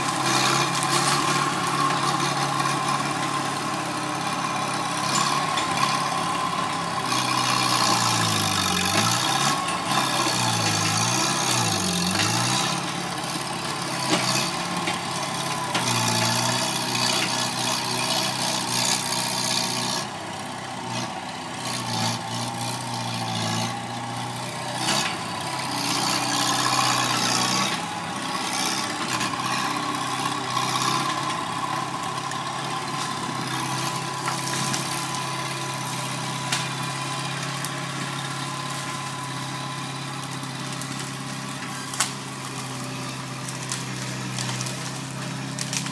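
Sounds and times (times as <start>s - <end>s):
loader engine running: 0.0s - 45.9s.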